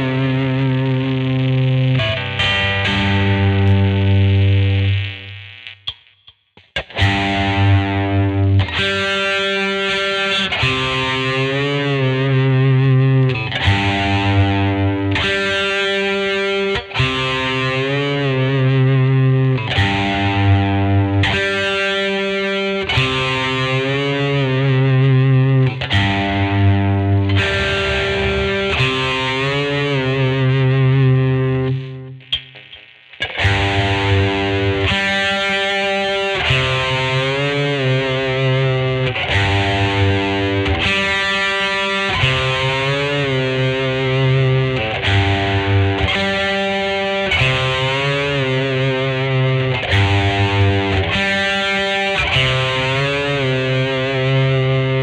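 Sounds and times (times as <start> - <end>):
distorted electric guitar chords: 0.0 - 55.0.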